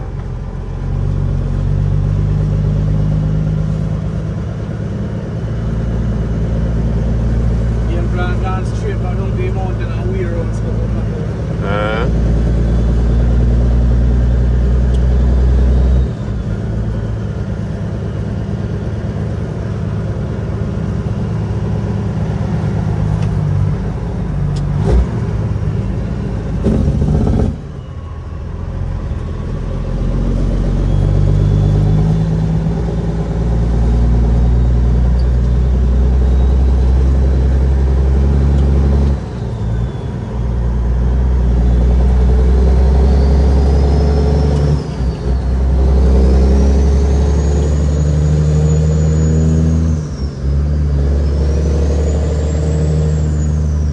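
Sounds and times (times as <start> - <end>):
diesel truck engine under load: 0.0 - 53.9.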